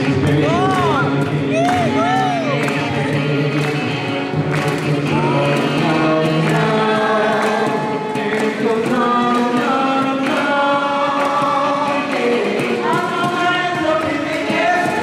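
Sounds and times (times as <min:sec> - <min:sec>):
acoustic guitar: 0:00.0 - 0:15.0
vocal group singing in harmony: 0:00.0 - 0:15.0.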